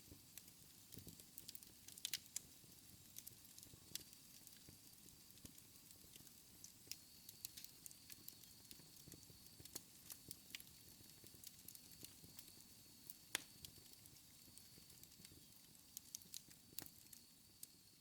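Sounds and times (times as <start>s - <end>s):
soft fire hiss: 0.0s - 18.0s
wood fire crackling: 0.0s - 18.0s.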